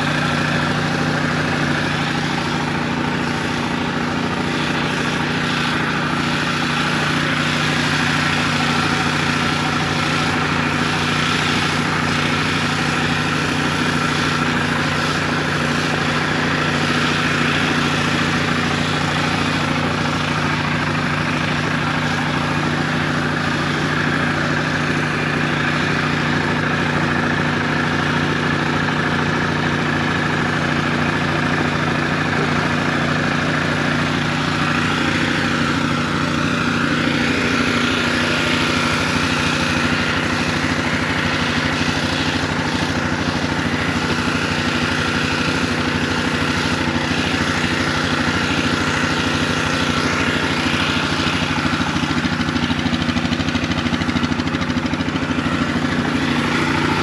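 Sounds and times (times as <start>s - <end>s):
pressure washer engine running: 0.0s - 57.0s
water jet hissing: 0.0s - 57.0s.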